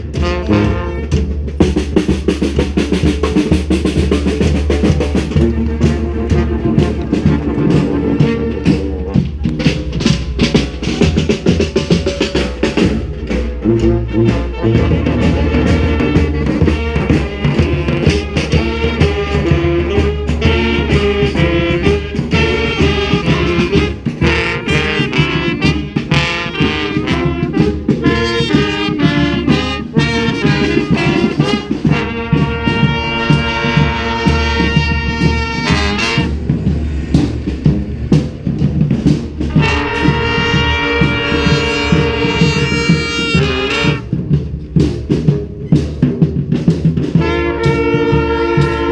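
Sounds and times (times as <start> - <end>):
steady drum beat: 0.0 - 48.9
trumpets and trombones: 0.0 - 48.9.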